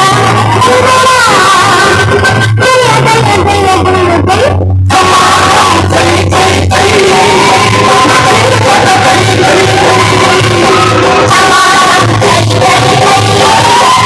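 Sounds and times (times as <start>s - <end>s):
heavy pulsing bass: 0.0s - 14.0s
loud music with singing: 0.0s - 14.0s.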